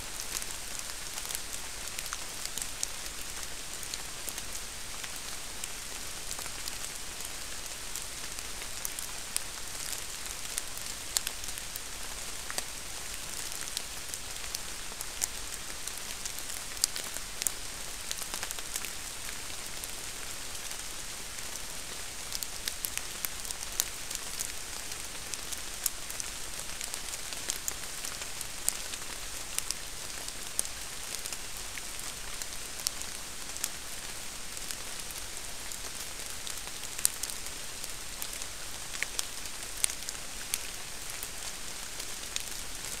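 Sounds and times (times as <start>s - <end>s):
microphone hiss: 0.0s - 43.0s.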